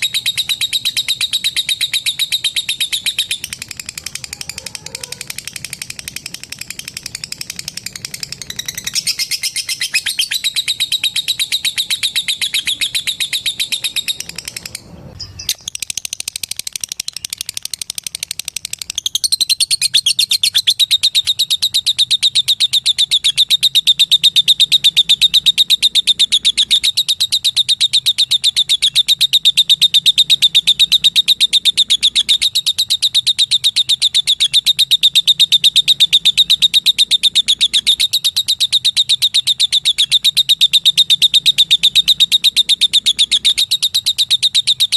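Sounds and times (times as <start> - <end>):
lovebird chattering trill: 0.0 - 44.9.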